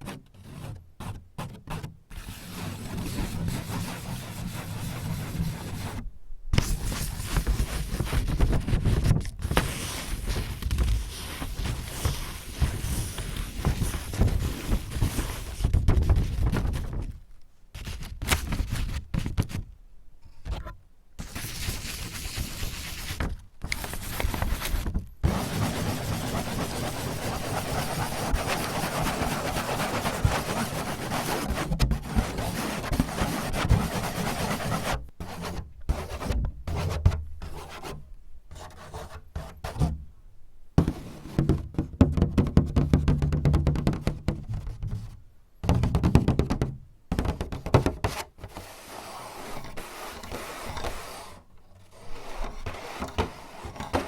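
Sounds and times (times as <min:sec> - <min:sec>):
fingers scratching and rubbing surface: 0:00.0 - 0:06.0, 0:06.6 - 0:17.1, 0:17.8 - 0:19.6, 0:20.4 - 0:39.9, 0:47.2 - 0:54.0.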